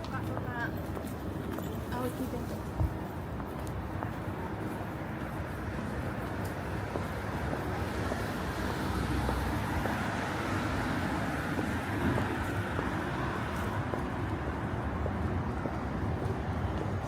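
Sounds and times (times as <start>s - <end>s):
continuous traffic rumble: 0.0s - 17.0s.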